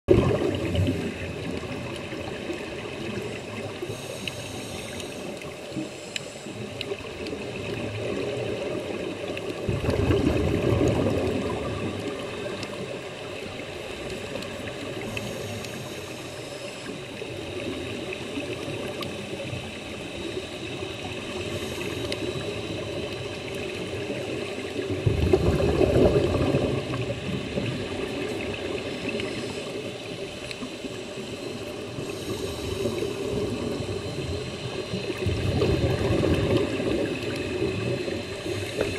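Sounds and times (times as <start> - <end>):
regulator bubbles underwater: 0.1 - 38.9
steady underwater hiss: 0.1 - 38.9.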